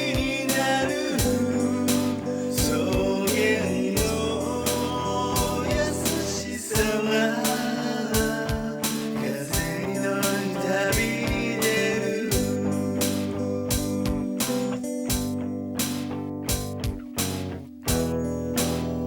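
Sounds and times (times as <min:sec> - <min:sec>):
drums keeping a steady beat: 0:00.0 - 0:19.0
guitar: 0:00.0 - 0:19.0.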